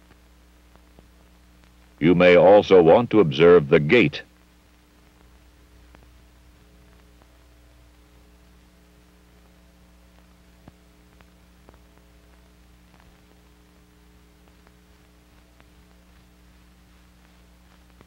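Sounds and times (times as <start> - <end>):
film soundtrack hum and hiss: 0.0 - 18.0.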